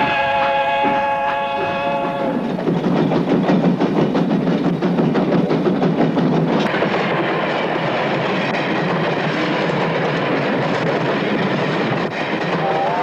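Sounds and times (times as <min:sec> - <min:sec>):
train wheels on track: 0:00.0 - 0:13.0.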